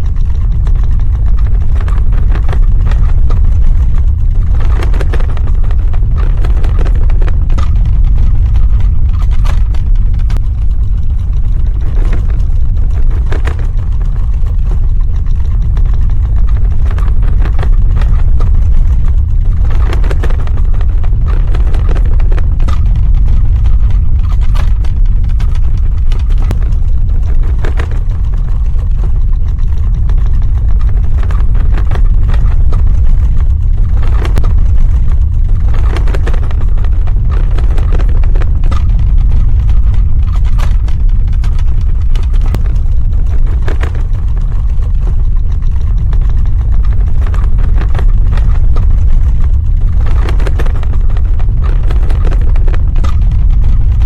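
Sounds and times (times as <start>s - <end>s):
crackles and rattles: 0.0s - 54.0s
deep rumble: 0.0s - 54.0s.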